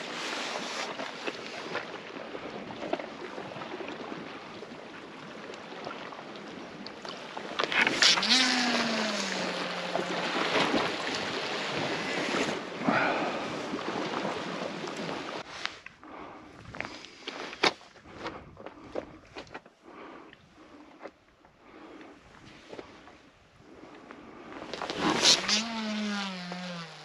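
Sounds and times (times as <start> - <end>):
sea and wind noise: 0.0 - 27.0.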